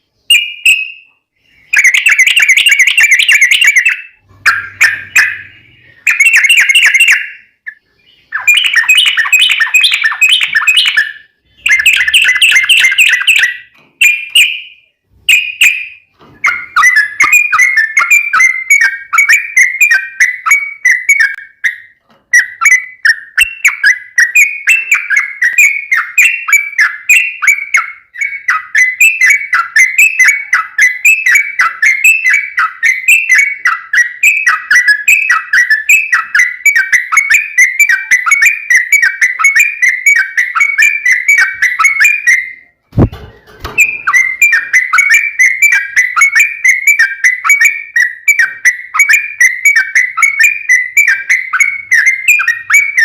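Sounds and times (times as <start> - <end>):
bird chirping song: 0.0 - 53.0.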